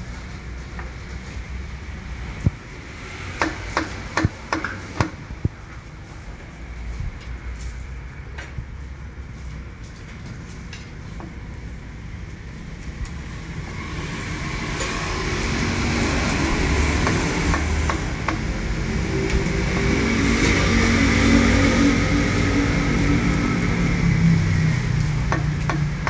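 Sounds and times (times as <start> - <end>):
street and kitchen noise: 0.0 - 26.0.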